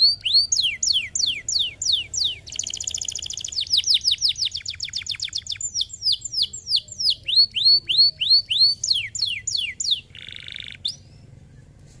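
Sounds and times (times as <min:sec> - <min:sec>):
canary singing: 0:00.0 - 0:11.8.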